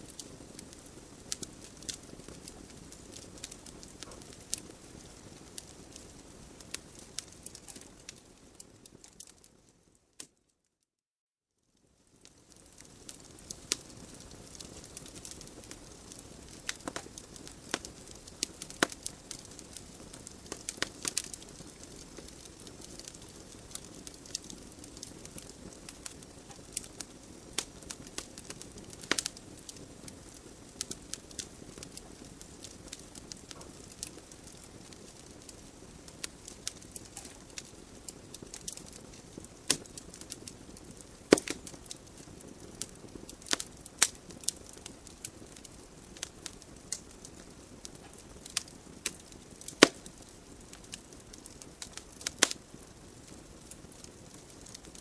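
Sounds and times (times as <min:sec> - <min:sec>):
wood fire crackling: 0:00.0 - 0:10.4, 0:11.8 - 0:55.0.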